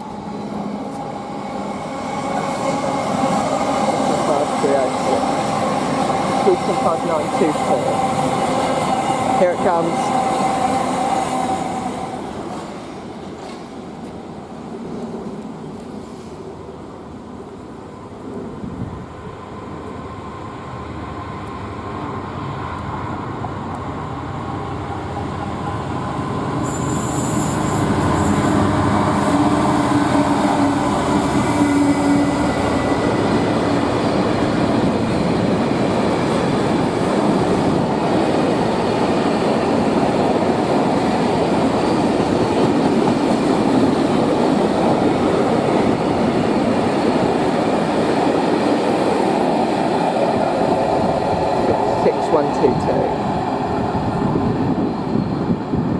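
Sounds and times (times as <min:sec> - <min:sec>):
train passing close by: 0:00.0 - 0:55.9.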